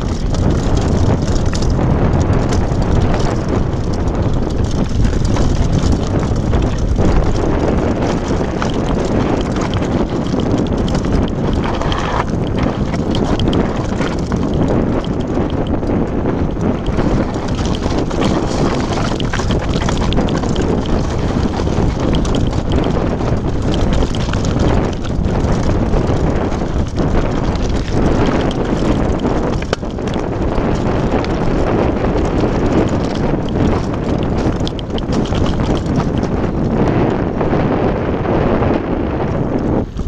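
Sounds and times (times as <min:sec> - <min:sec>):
stones knocking: 0:00.0 - 0:15.9, 0:16.7 - 0:31.4, 0:32.2 - 0:36.3
mountain bike rattling over rocks: 0:00.0 - 0:37.5
wind buffeting microphone: 0:00.0 - 0:40.0.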